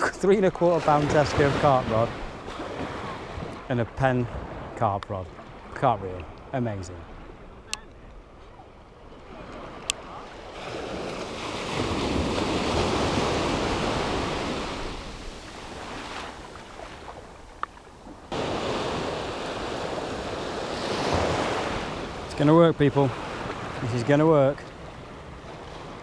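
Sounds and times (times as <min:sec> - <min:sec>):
sea waves washing in surf: 0:00.0 - 0:06.0, 0:09.1 - 0:26.0.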